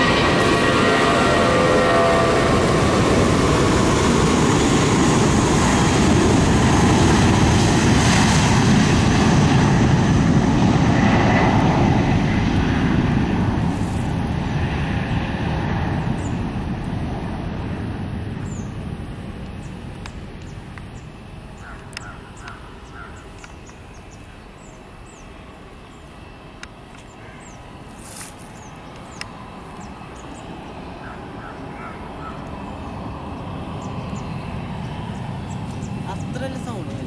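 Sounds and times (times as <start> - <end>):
jet airliner taking off: 0.0 - 37.0.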